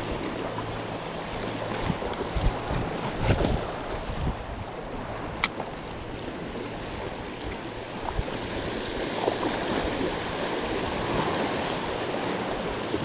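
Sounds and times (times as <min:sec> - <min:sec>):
waves breaking over rocks: 0:00.0 - 0:13.0
wind on microphone: 0:01.6 - 0:13.0.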